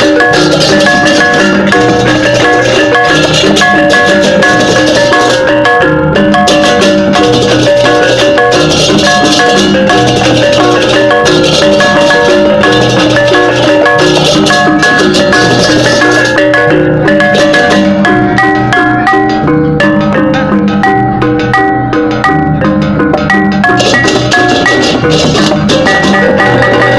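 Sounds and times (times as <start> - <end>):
drums: 0.0 - 26.9
gamelan metal keys and gongs: 0.0 - 26.9.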